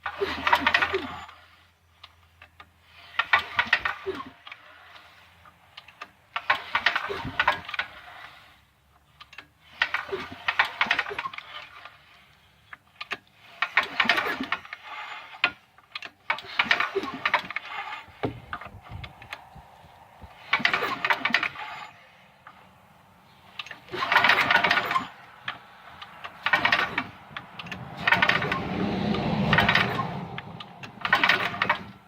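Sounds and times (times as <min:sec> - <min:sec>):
snowblower engine turning over: 0:00.0 - 0:01.6, 0:02.8 - 0:32.0.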